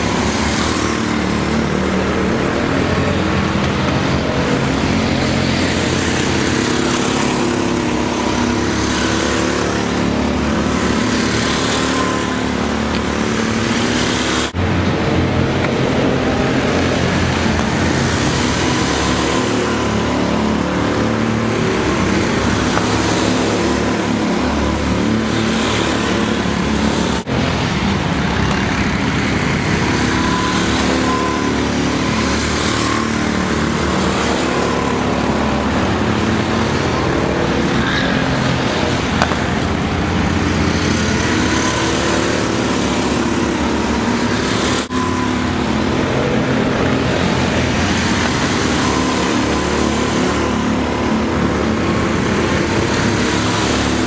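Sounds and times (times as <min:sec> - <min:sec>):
go-kart engine running: 0:00.0 - 0:54.0
wind and tyre noise: 0:00.0 - 0:54.0.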